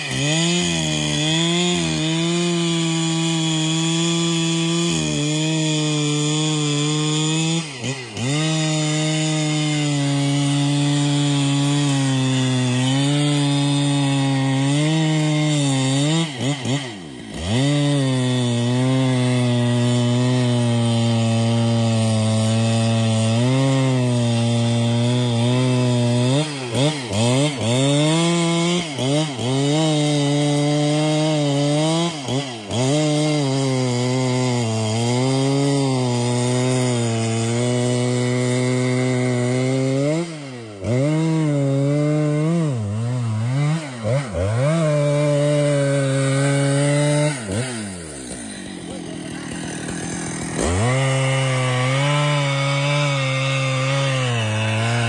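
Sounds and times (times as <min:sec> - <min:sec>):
chainsaw cutting into tree: 0:00.0 - 0:55.0.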